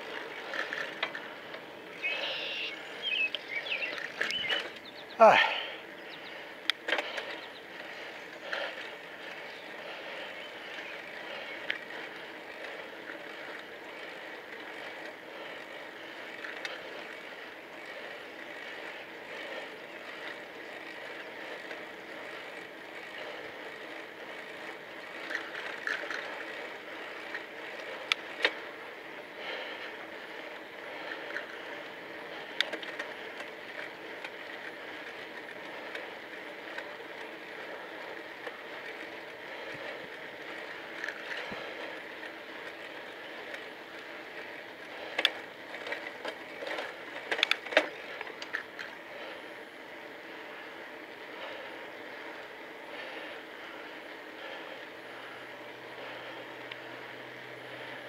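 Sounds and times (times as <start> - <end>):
bicycle tyres and drivetrain: 0.0 - 58.0.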